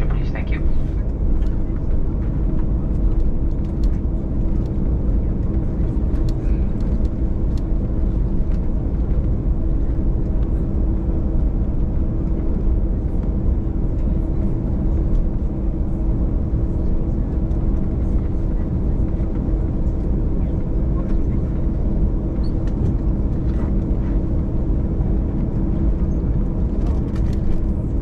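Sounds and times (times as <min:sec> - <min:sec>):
jet engines droning in cabin: 0:00.0 - 0:28.0.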